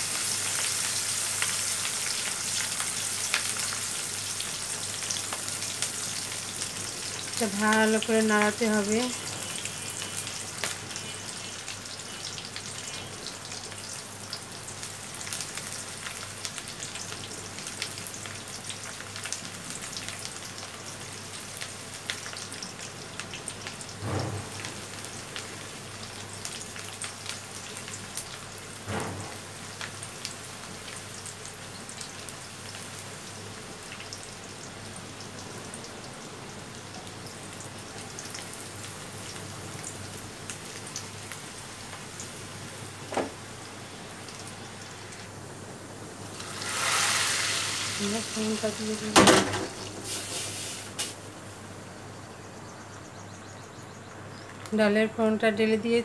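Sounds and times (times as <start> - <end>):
onion sizzling in hot oil: 0.0 - 52.8.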